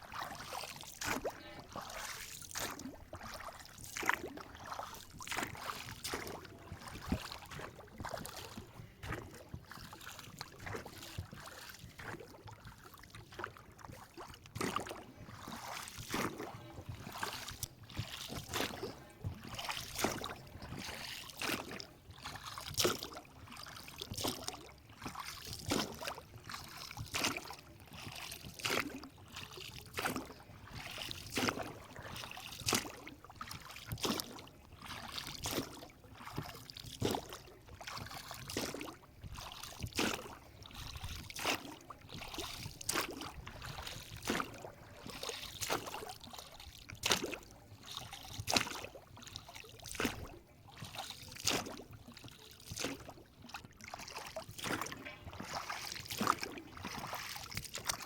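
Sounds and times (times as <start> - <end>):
water splashing and lapping: 0.0 - 58.0.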